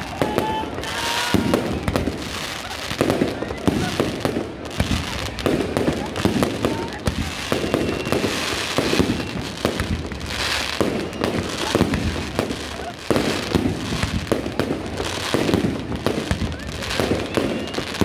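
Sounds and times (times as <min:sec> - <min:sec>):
fireworks bangs and booms: 0:00.0 - 0:18.0.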